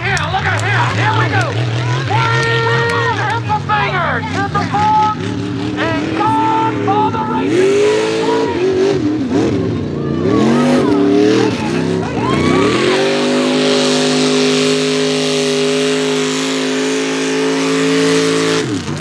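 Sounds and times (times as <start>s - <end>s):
pickup engine revving: 0.0s - 19.0s
tyres churning through mud: 0.0s - 19.0s.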